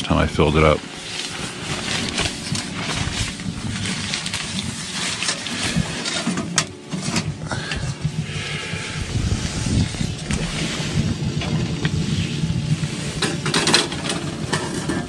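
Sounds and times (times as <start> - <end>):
wood fire crackling in stove: 0.0 - 15.0.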